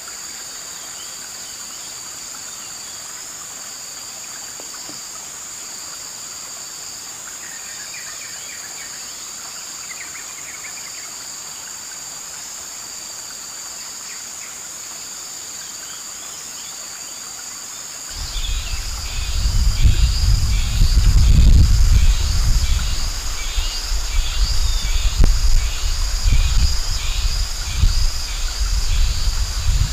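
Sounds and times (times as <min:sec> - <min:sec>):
insect drone: 0:00.0 - 0:29.9.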